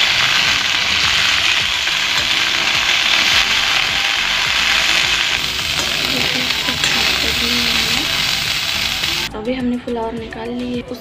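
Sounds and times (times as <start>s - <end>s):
metal spatula stirring: 0.0s - 9.3s
vegetables sizzling in oil: 0.0s - 9.3s.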